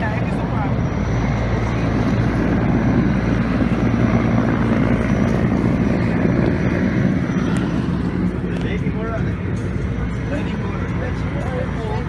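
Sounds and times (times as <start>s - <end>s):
low engine drone: 0.0s - 12.0s
wind noise on microphone: 0.0s - 12.0s.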